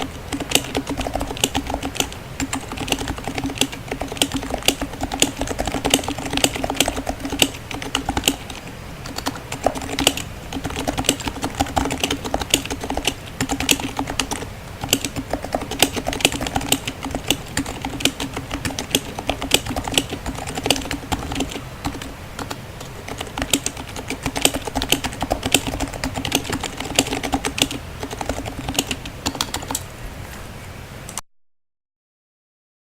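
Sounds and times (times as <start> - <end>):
soft keyboard keystrokes: 0.0 - 29.9.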